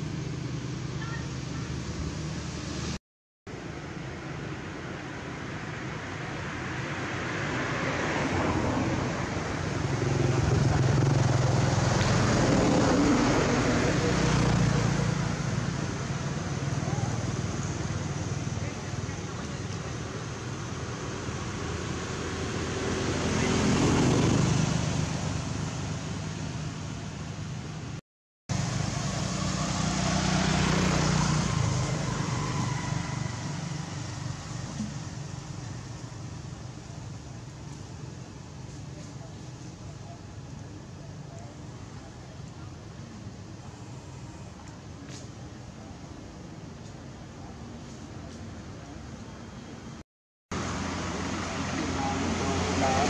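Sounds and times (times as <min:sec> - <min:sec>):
road noise: 0:00.0 - 0:53.0
vehicle engine hum: 0:00.0 - 0:53.0.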